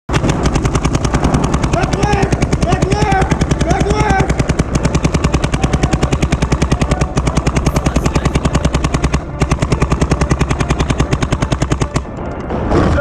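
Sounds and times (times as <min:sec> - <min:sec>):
paintball marker firing: 0:00.1 - 0:12.8.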